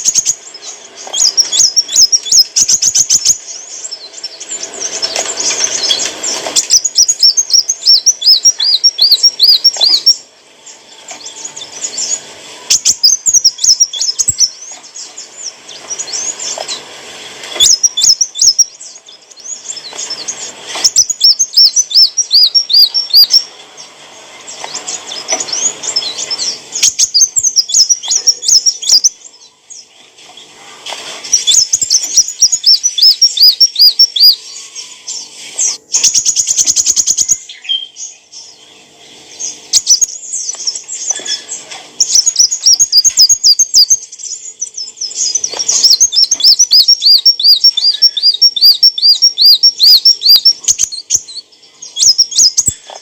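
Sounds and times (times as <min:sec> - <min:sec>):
sunbird singing: 0:00.0 - 0:53.0.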